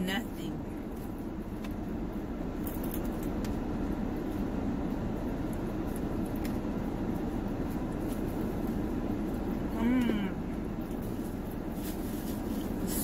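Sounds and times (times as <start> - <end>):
car air conditioning hum: 0.0 - 13.0.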